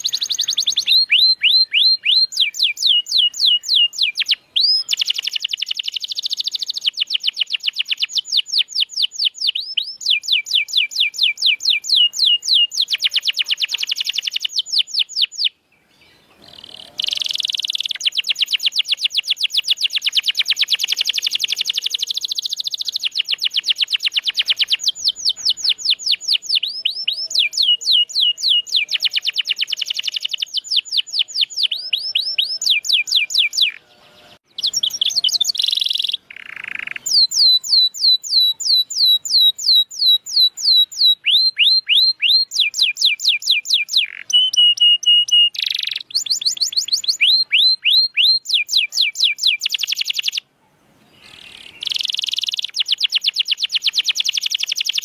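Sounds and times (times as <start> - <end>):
canary singing trills: 0.0 - 50.5, 51.1 - 55.0.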